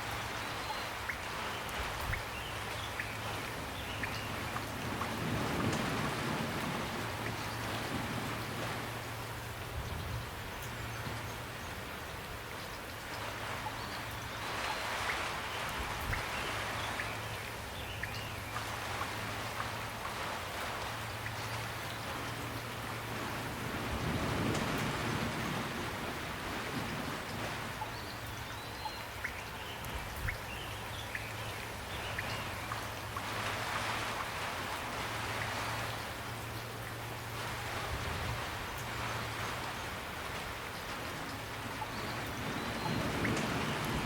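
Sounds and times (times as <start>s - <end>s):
gentle rain falling: 0.0s - 44.0s.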